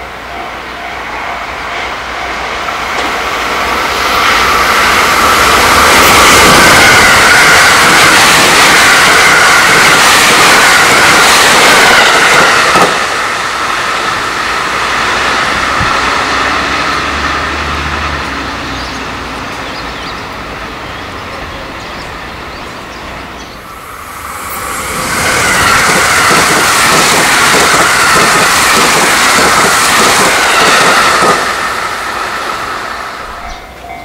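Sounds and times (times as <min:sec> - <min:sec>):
approaching train rushing: 0:00.0 - 0:34.0
electric train passing at speed: 0:00.0 - 0:34.0
train running noise: 0:00.0 - 0:34.0.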